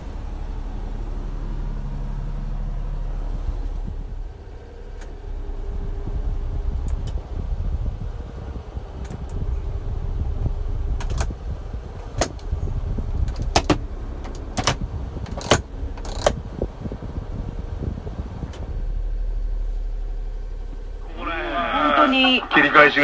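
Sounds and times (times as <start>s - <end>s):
blower fan rumble: 0.0s - 23.0s.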